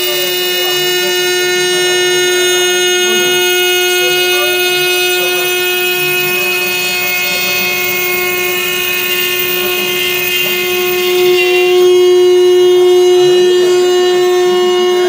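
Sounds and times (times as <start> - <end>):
cnc router whining: 0.0 - 15.0.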